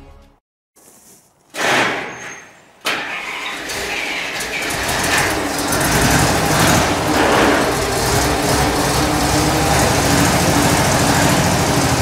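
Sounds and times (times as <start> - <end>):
tow tractor engine starting: 1.5 - 12.0.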